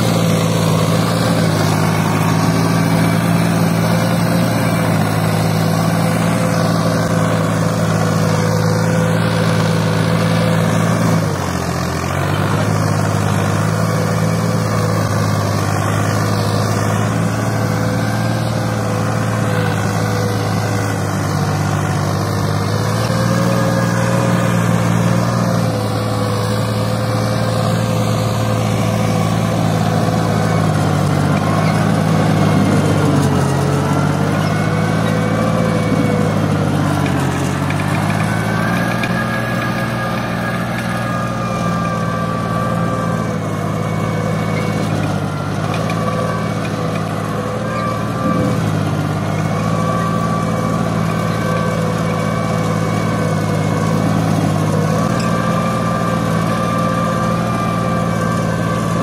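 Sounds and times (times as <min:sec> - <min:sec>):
tractor diesel engine straining: 0:00.0 - 0:59.0.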